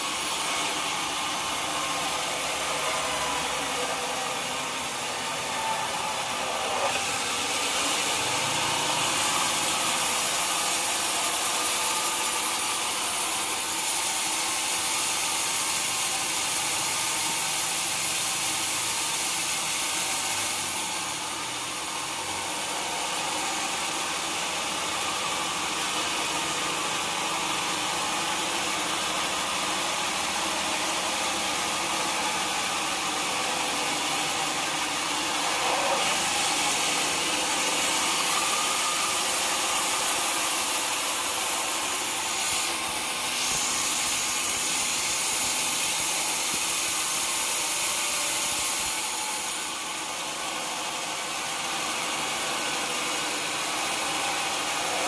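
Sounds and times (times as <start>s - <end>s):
saw cutting through wood: 0.0s - 55.0s
sawmill machinery running: 0.0s - 55.0s.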